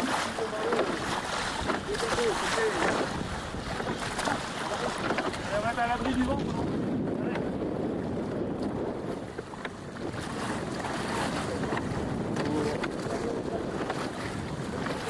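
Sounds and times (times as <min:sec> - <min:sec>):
water washing along boat hull: 0:00.0 - 0:15.0
wind buffeting microphone: 0:00.0 - 0:15.0.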